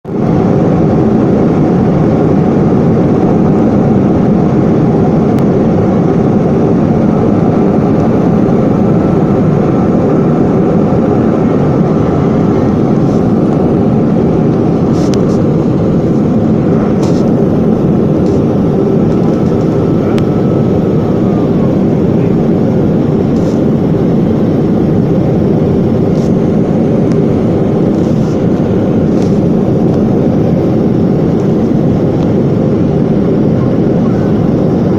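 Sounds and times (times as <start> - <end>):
airplane engines rumbling: 0.0 - 34.9
faint thin whine: 3.6 - 34.9.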